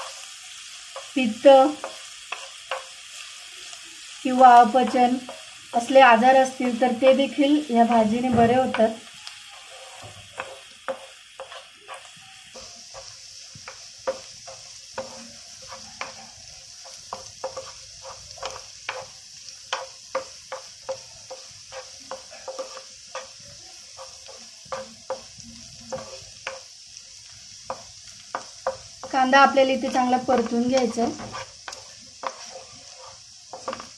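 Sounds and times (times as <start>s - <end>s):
spatula scraping and tapping pan: 0.0s - 3.3s, 4.3s - 7.2s, 8.1s - 33.9s
vegetables sizzling in oil: 0.0s - 33.9s.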